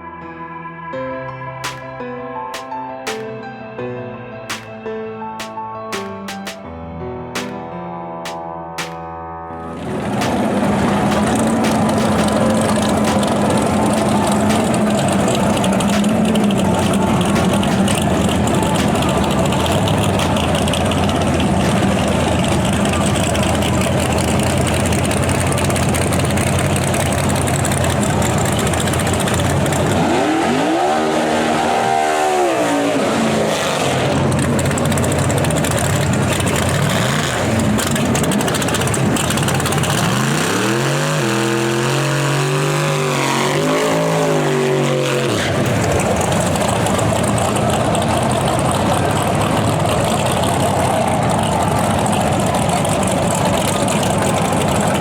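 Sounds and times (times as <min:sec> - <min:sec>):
race car engines idling and revving: 0:09.6 - 0:55.0.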